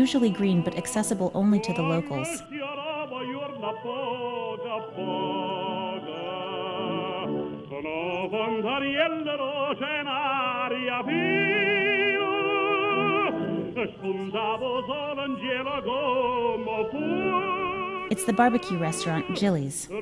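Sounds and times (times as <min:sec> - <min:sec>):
operatic voice singing: 0:00.0 - 0:20.0.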